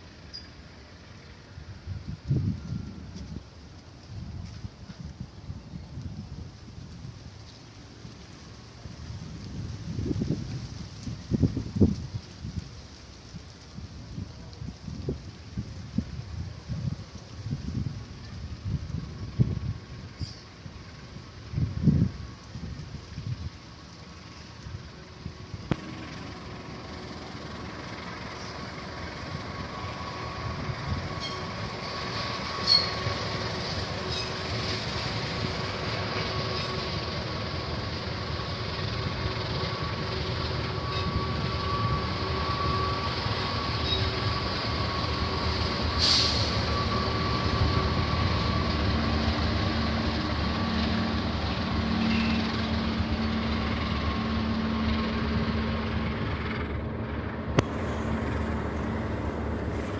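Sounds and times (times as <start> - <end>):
wheels squealing on rails: 0.0 - 5.8, 6.6 - 59.9
passenger train passing: 0.0 - 59.9.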